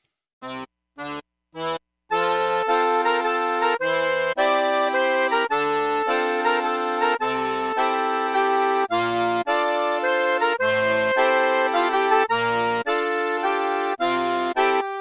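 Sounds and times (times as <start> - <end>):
background music with melody: 0.4 - 15.0.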